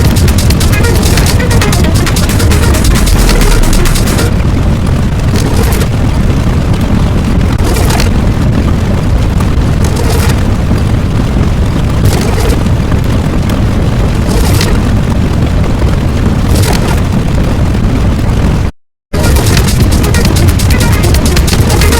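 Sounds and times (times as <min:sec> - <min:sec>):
rumbling explosion sound effect: 0:00.0 - 0:21.9.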